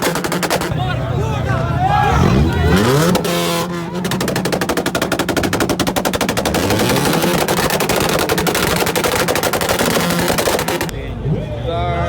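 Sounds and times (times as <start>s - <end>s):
engine with loud open exhaust: 0.0s - 12.0s.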